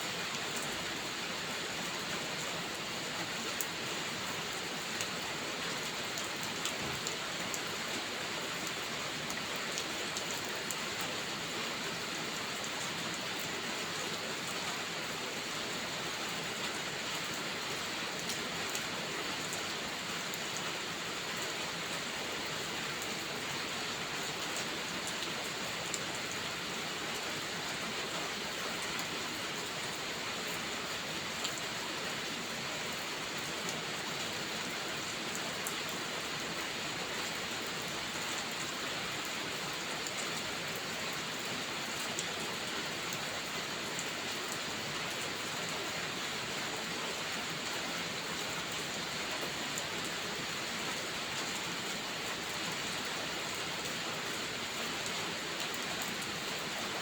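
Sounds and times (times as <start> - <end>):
dense rainfall: 0.0 - 57.0.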